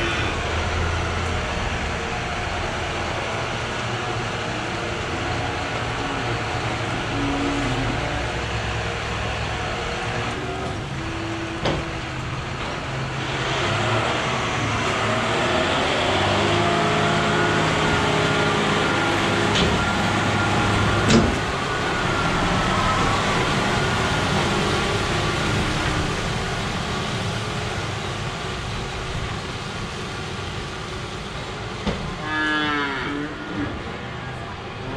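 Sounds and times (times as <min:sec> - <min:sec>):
tractor engine passing: 0:00.0 - 0:32.2.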